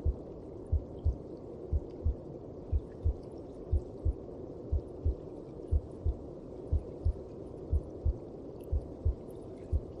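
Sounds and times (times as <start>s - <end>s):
heartbeat from inside womb: 0.0s - 10.0s.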